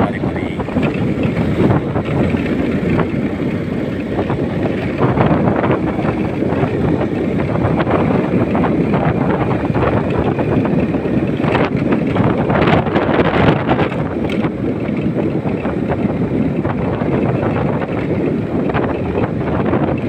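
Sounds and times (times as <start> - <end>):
motorcycle engine running: 0.0 - 20.0
tyres on dirt road: 0.0 - 20.0
wind rushing over microphone: 0.0 - 20.0.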